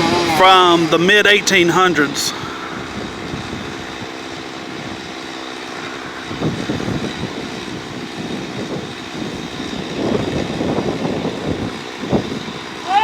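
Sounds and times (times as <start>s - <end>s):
wind gusting against microphone: 0.0s - 13.0s.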